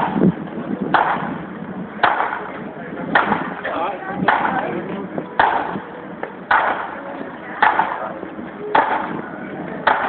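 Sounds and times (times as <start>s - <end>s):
street noise: 0.0s - 10.0s.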